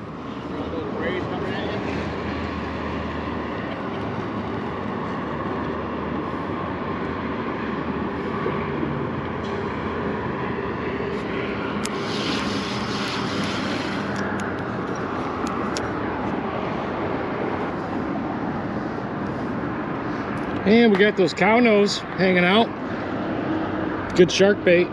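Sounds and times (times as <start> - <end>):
wind rushing over microphone: 0.0 - 24.1.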